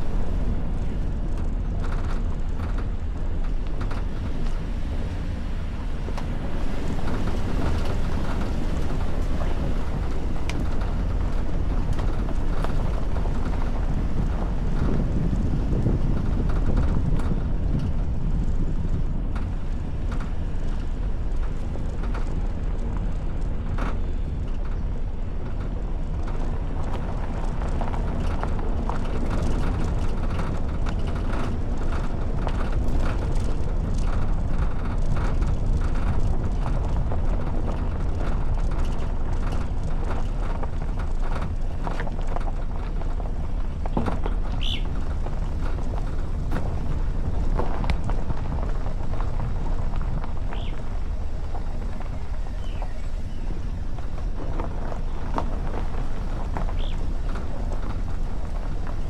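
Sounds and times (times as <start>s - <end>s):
car knocks and rattles: 0.0s - 59.0s
low road rumble: 0.0s - 59.0s.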